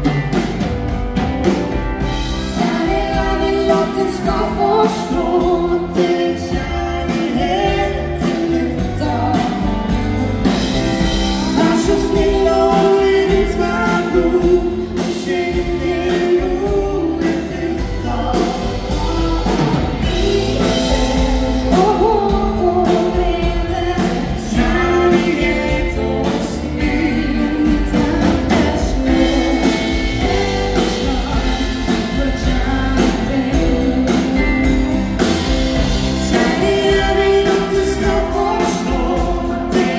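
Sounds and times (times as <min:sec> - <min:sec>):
live dance band music: 0:00.0 - 0:39.9
woman singing: 0:02.1 - 0:10.1, 0:11.0 - 0:39.9.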